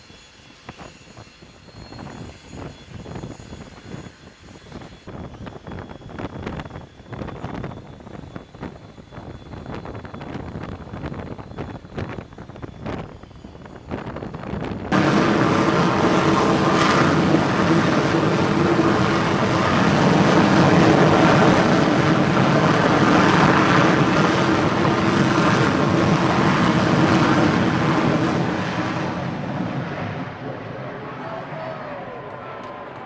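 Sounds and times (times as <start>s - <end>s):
jet engine roaring: 0.0s - 33.0s.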